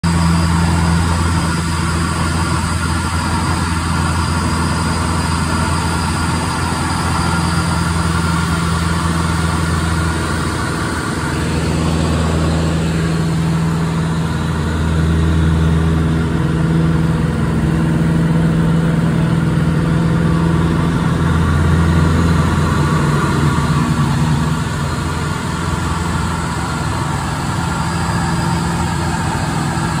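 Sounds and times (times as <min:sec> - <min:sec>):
aircraft engine and propeller drone: 0:00.0 - 0:30.0.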